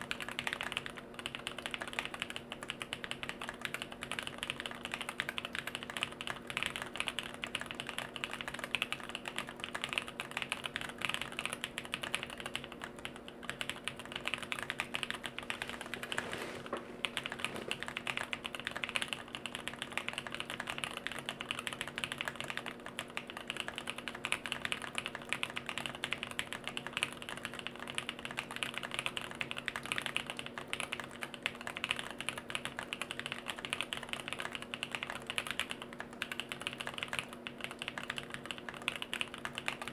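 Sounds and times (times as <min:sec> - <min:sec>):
faint steady hum: 0:00.0 - 0:39.9
mechanical keyboard typing: 0:00.0 - 0:39.9.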